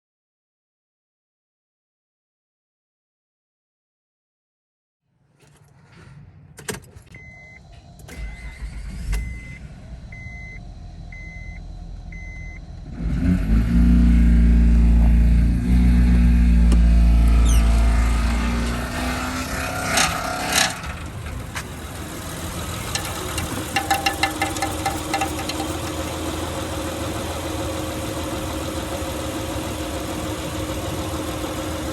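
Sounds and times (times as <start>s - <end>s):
car engine cranking and starting: 5.4s - 31.9s.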